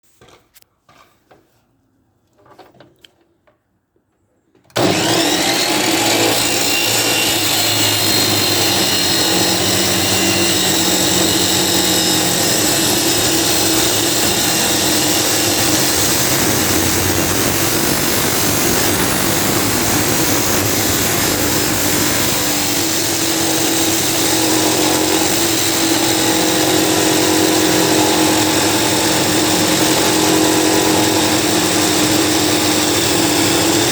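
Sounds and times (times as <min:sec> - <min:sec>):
chop saw grinding through metal: 0:04.8 - 0:33.9.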